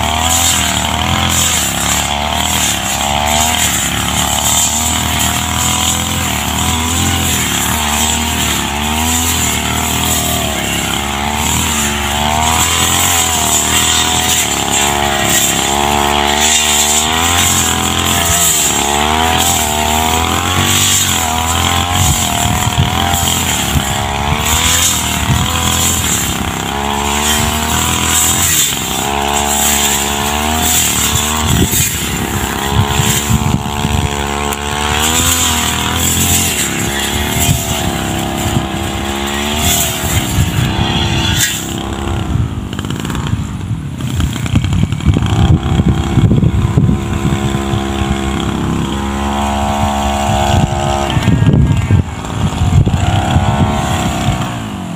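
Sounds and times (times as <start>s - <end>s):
brush cutter engine under load: 0.0s - 54.9s.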